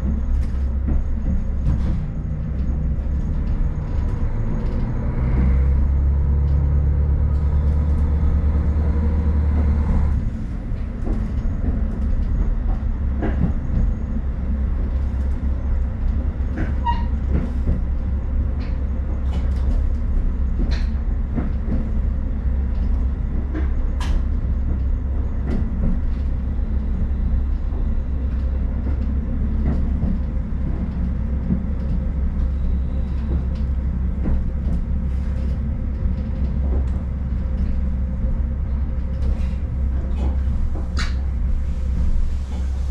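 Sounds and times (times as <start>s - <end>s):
diesel railcar engine droning: 0.0s - 42.9s
rail clicks: 0.0s - 42.9s
train rumbling on rails: 0.0s - 42.9s.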